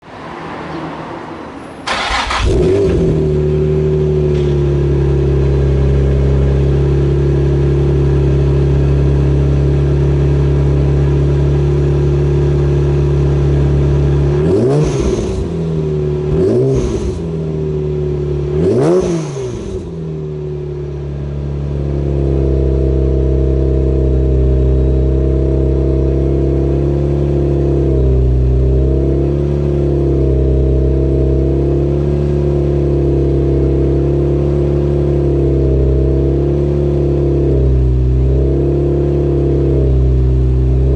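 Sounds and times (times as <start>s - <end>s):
car engine idling and revving: 0.0s - 40.9s
supercharger whine: 0.1s - 40.9s.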